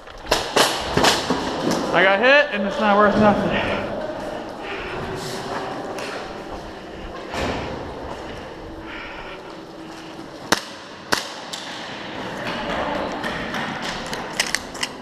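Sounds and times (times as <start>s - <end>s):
indoor crowd hubbub: 0.0s - 15.0s.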